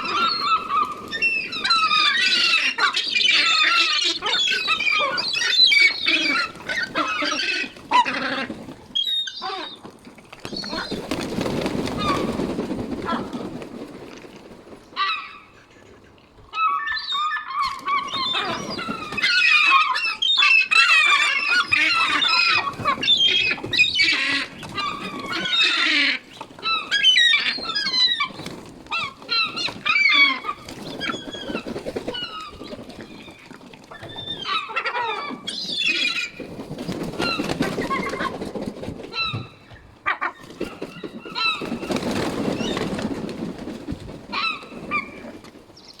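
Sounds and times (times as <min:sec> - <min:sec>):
seabirds calling: 0:00.0 - 0:13.5, 0:14.9 - 0:38.4.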